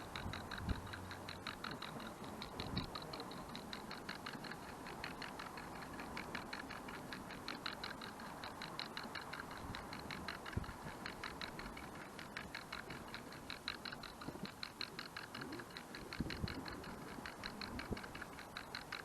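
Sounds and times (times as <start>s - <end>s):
clockwork kitchen timer ticking: 0.0s - 19.0s.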